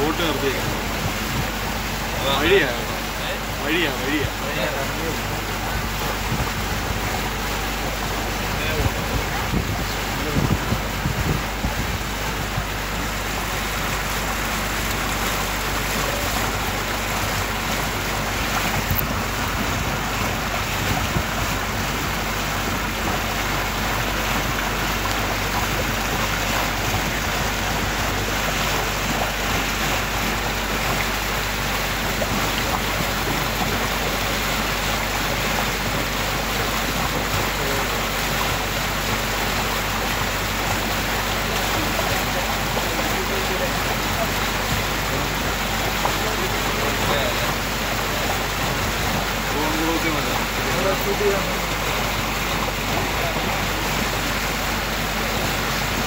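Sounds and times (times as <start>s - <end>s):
motorboat engine drone: 0.0s - 56.0s
water rushing along hull: 0.0s - 56.0s.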